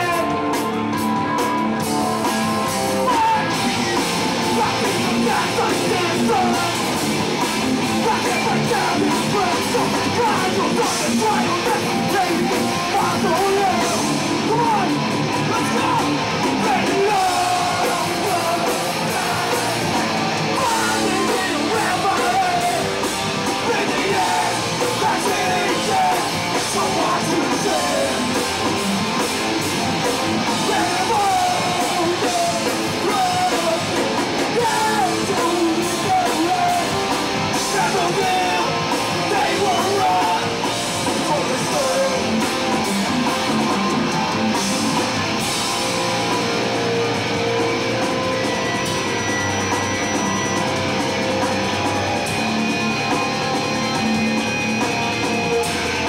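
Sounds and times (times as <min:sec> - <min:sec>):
vocals: 0:00.0 - 0:46.2
bass guitar: 0:00.0 - 0:56.0
distorted electric guitars: 0:00.0 - 0:56.0
drum kit: 0:00.0 - 0:56.0.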